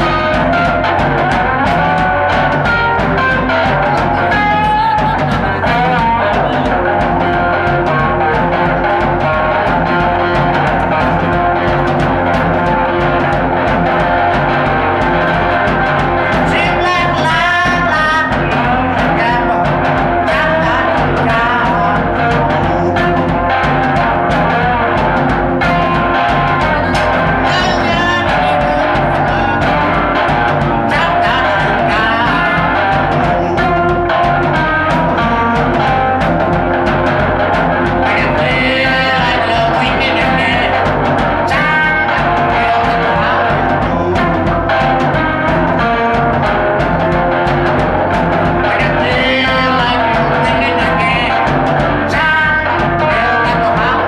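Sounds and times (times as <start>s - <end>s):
drum kit steady beat: 0.0s - 54.0s
electric guitar: 0.0s - 54.0s
person singing: 0.0s - 54.0s.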